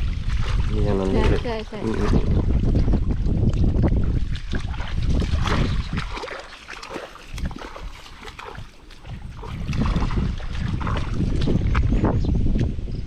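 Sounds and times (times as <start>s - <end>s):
wind rumble on microphone: 0.0s - 6.5s, 7.2s - 13.0s
footsteps splashing through water: 0.0s - 12.8s.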